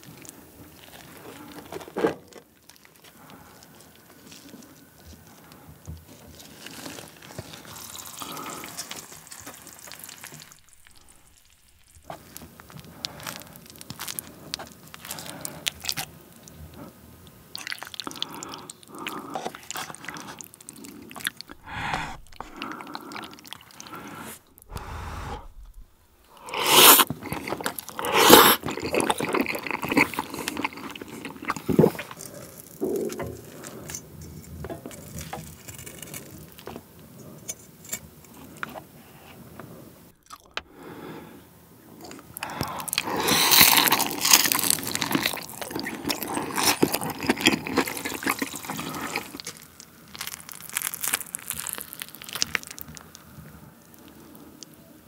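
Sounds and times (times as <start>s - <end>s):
close-up eating sounds: 0.0s - 41.1s, 41.8s - 55.0s
wet sticky cheese sounds: 2.4s - 34.0s, 42.0s - 55.0s.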